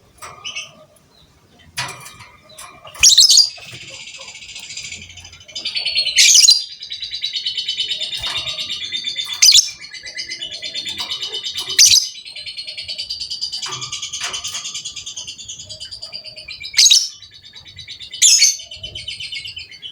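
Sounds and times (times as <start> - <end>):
lovebird pulsing chatter: 0.0 - 19.9.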